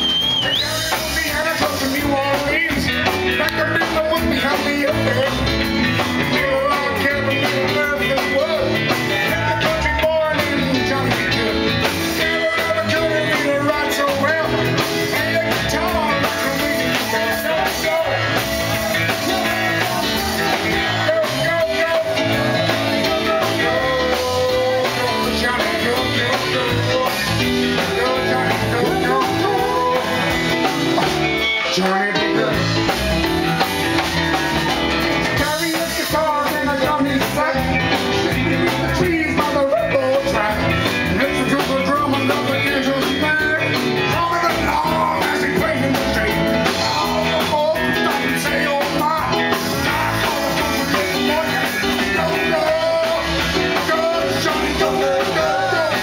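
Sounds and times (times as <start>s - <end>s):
live rock band playing: 0.0s - 56.0s
man singing: 0.0s - 56.0s.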